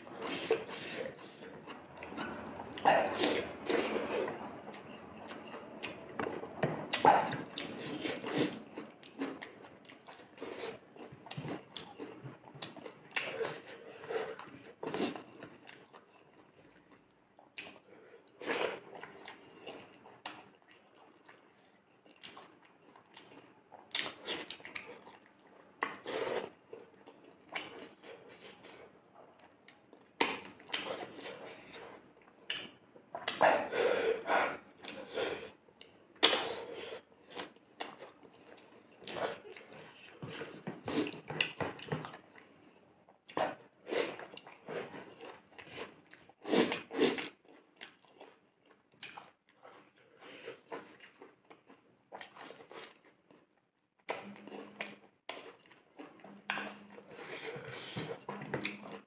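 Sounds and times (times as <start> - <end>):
chewing and lip smacks: 0.0 - 26.1, 26.8 - 33.7, 37.3 - 42.6, 43.2 - 59.0.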